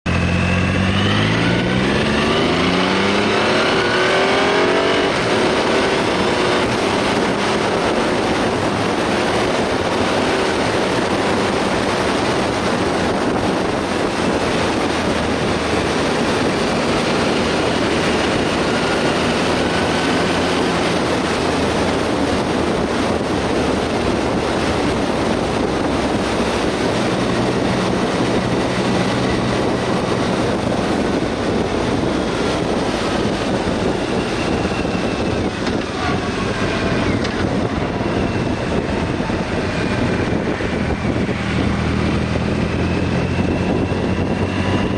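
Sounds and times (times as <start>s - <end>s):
motorcycle engine accelerating: 0.0s - 44.9s
wind and road noise: 0.0s - 44.9s.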